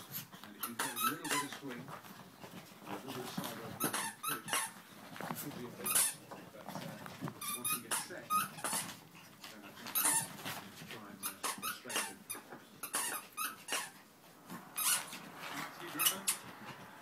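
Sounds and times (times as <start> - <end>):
puppies yipping and squeaking: 0.0 - 5.1, 5.7 - 6.4, 7.3 - 17.0.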